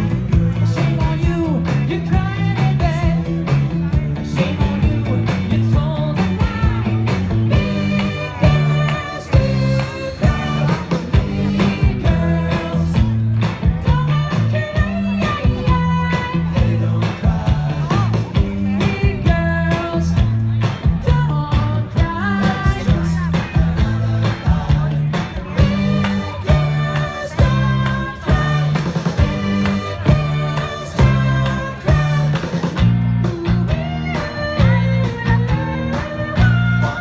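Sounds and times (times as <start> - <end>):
heavy pulsing bass line: 0.0 - 37.0
pop-rock song with singing: 0.0 - 37.0.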